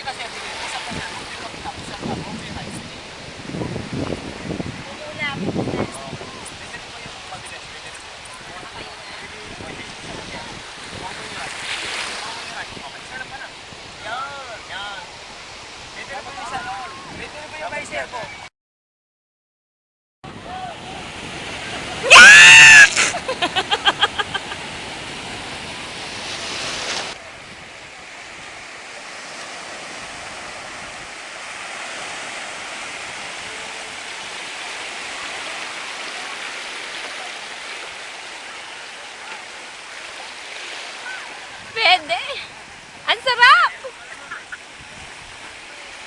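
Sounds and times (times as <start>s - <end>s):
surf and moving water: 0.0s - 18.5s, 20.3s - 46.0s.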